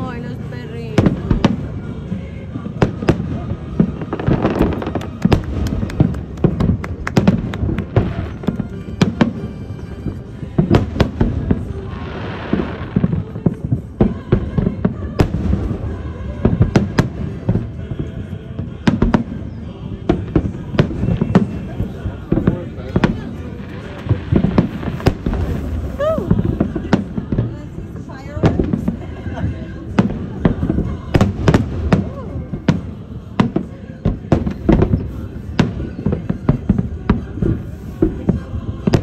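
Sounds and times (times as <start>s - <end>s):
fireworks bangs: 0.0s - 39.0s
fireworks crackling hiss: 0.0s - 39.0s.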